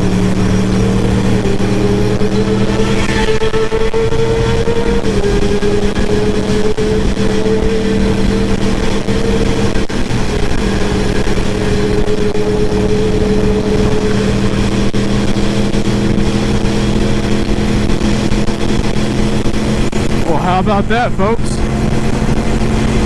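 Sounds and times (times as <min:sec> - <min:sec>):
motorcycle engine running: 0:00.0 - 0:23.0
rush of noise: 0:00.0 - 0:23.0.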